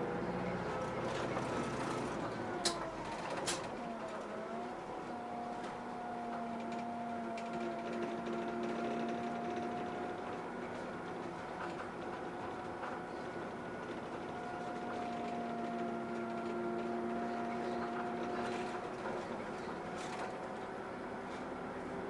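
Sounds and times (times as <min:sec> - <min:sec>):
bus drivetrain hum with whine: 0:00.0 - 0:22.0.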